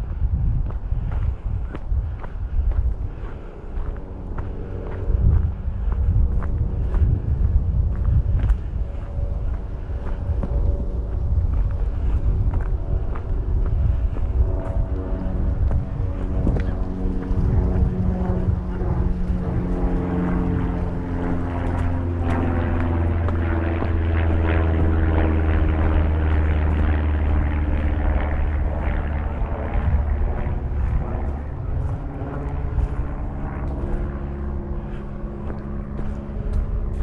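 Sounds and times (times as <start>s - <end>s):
propeller aircraft engine droning: 0.0s - 37.0s.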